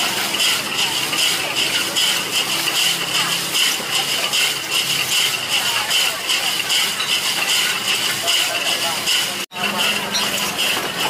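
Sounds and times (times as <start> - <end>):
ice and glass bottles churning: 0.0 - 11.0.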